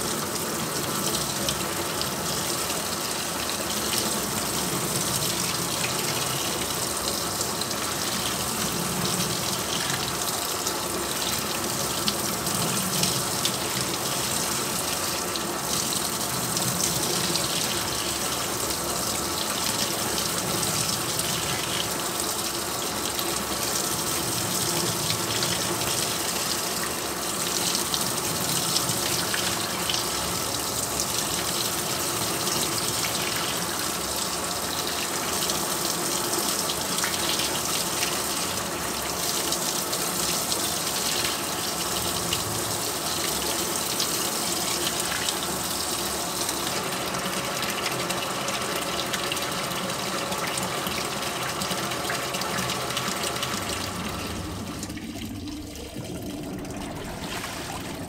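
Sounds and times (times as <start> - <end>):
water pouring into washing machine: 0.0 - 58.0.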